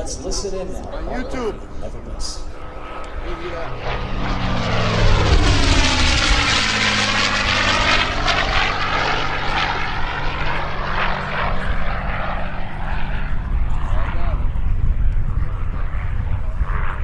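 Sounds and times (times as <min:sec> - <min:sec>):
propeller plane engine flyby: 0:00.0 - 0:17.0.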